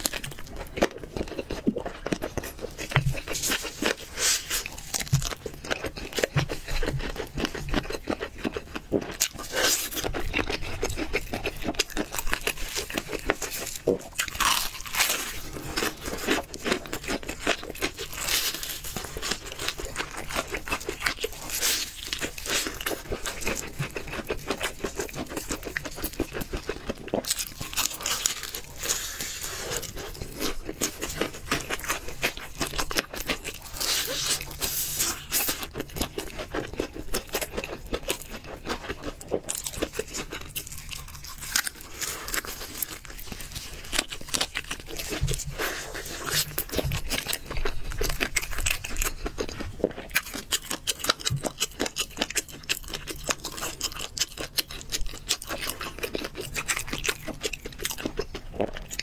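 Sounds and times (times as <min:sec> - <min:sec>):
crunching fried chicken: 0:00.0 - 0:59.0
meat tearing: 0:00.0 - 0:59.0.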